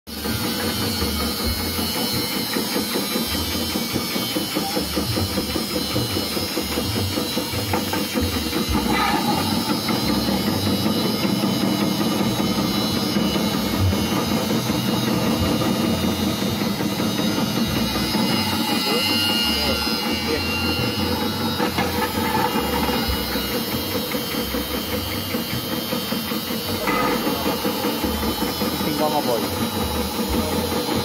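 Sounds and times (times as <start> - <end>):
motor hum: 0.1 - 31.0.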